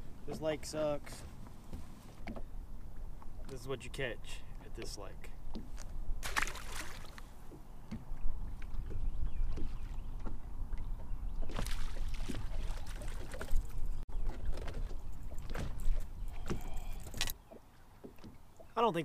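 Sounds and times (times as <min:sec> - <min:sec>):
water lapping against boat hull: 0:00.0 - 0:19.0.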